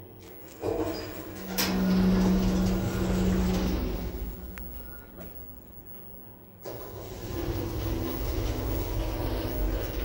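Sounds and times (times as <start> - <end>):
lift door motor humming: 0.6 - 5.3, 6.6 - 10.0.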